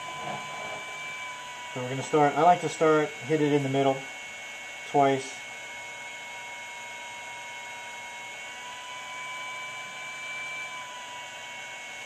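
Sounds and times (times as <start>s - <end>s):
electrical hum with whine: 0.0s - 12.0s.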